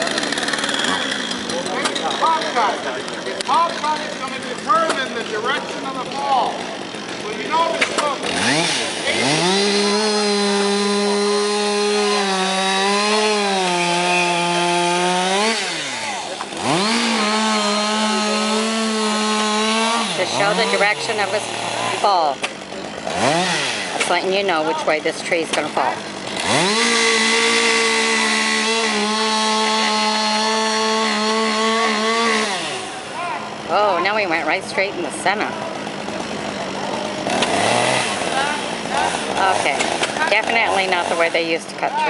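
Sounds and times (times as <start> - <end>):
chainsaw cutting into tree trunk: 0.0 - 34.1, 35.4 - 41.6.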